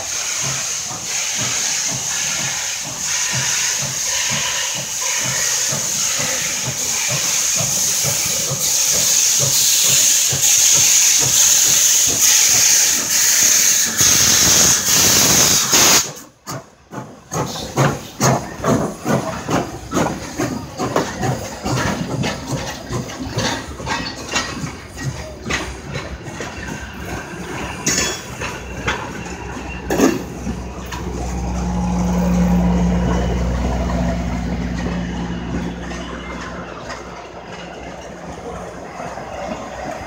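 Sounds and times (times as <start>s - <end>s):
locomotive rhythmic pulsing: 0.0s - 40.0s
steam hissing from locomotive: 0.0s - 40.0s.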